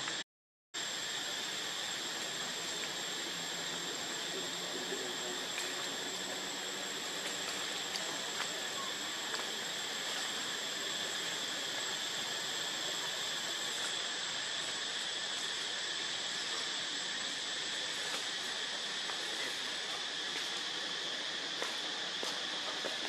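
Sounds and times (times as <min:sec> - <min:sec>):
even hiss: 0:00.8 - 0:23.0
insects droning: 0:00.8 - 0:23.0.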